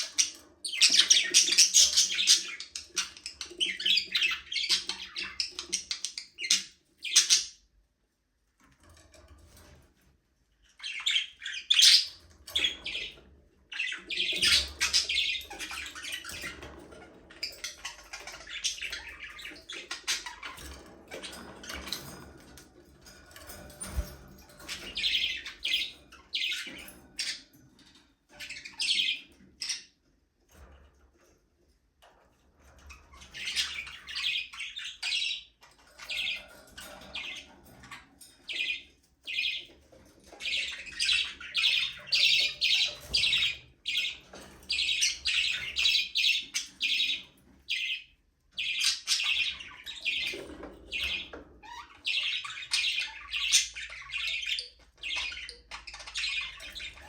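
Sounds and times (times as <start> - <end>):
budgerigars chirping and chattering: 0.0 - 7.7, 10.7 - 30.8, 32.7 - 57.0.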